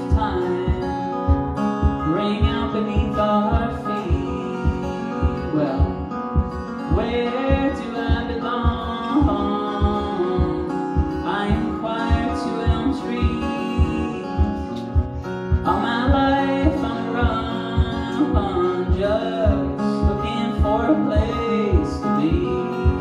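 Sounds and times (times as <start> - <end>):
acoustic guitar strumming: 0.0 - 23.0
low thump on each beat: 0.1 - 23.0.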